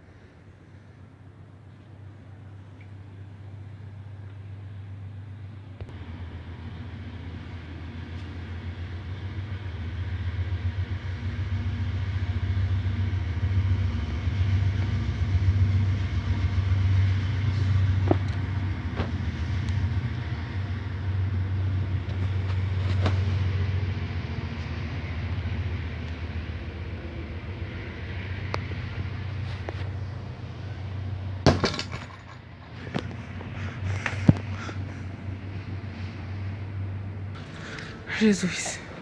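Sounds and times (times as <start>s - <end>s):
low steady rumble: 0.0s - 39.0s.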